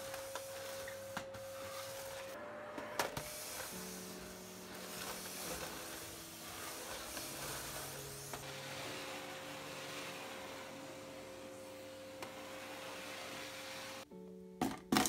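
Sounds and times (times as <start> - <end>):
vacuum cleaner running: 0.0 - 14.1
soft background music: 0.0 - 15.0.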